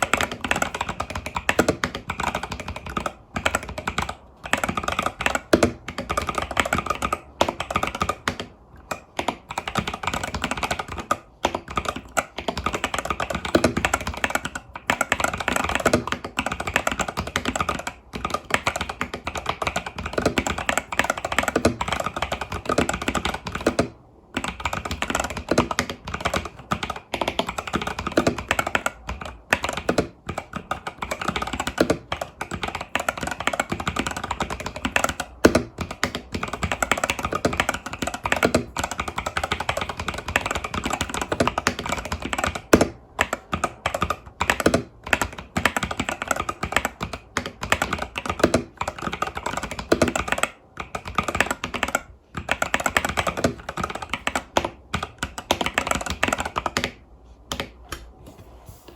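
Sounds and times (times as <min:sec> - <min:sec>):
mechanical keyboard typing: 0:00.0 - 0:58.2.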